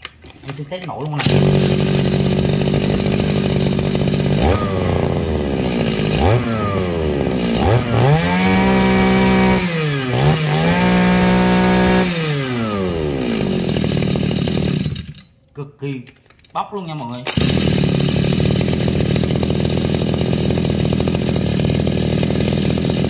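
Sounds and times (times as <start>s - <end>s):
brush cutter engine revving: 0.5s - 15.3s, 17.2s - 23.0s.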